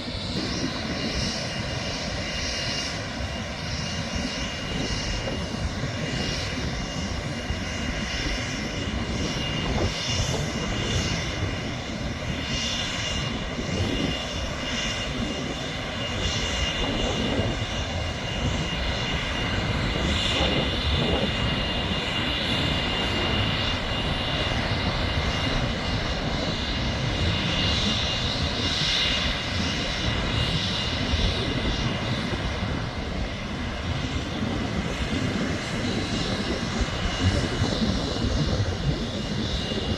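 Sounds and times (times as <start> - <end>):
jet engines running with whine: 0.0 - 39.9.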